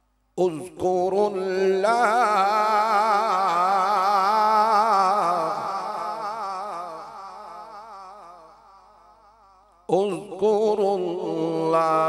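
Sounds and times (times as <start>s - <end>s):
man reciting in ornamented chant: 0.4s - 8.5s, 9.9s - 12.0s.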